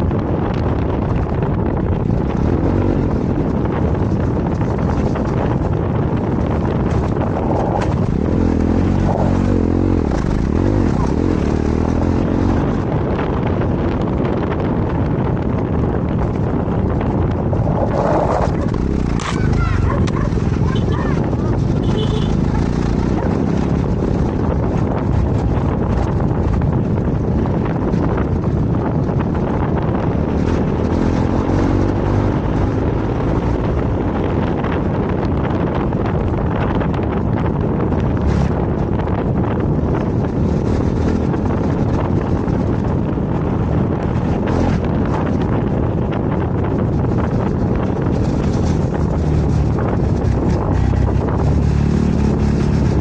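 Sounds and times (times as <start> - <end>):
motorcycle engine revving: 0.0 - 53.0
wind rushing over microphone: 0.0 - 53.0.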